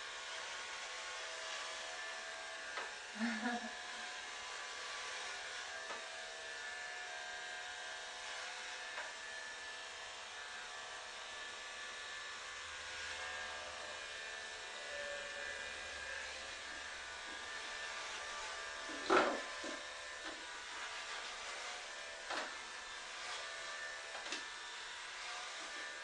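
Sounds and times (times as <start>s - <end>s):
electric hair clippers buzzing: 0.0s - 26.0s.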